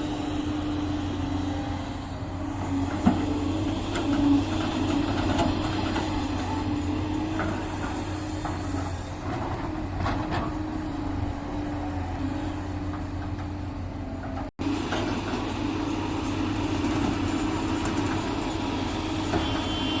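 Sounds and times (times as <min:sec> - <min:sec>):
diesel machinery engine droning: 0:00.0 - 0:20.0.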